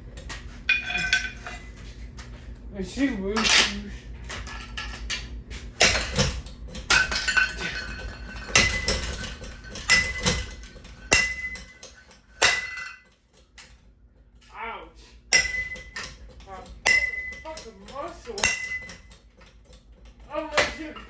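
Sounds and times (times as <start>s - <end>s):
metal fan parts clanking: 0.0s - 21.0s.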